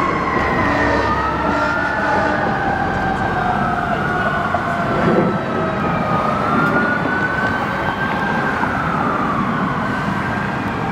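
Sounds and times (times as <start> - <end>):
sirens wailing: 0.0 - 10.9
street traffic rumble: 0.0 - 10.9.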